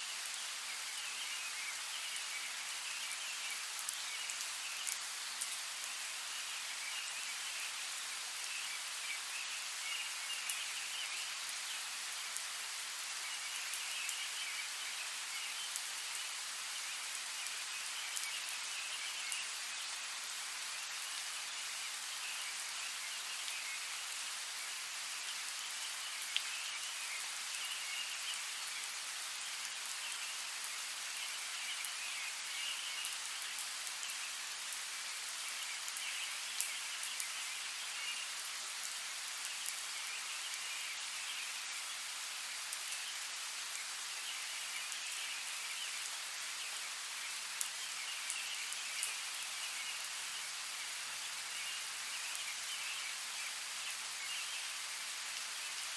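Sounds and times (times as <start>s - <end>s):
rain hissing: 0.0s - 55.9s.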